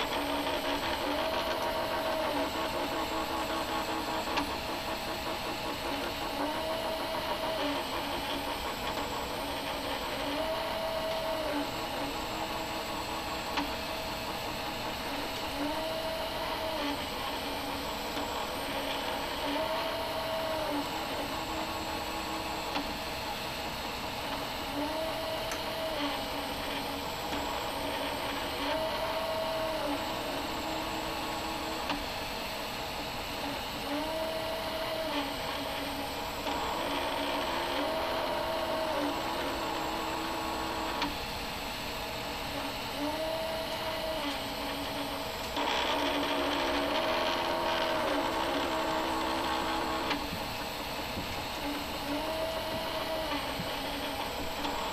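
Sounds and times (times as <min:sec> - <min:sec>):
stepper motors whining: 0:00.0 - 0:54.9.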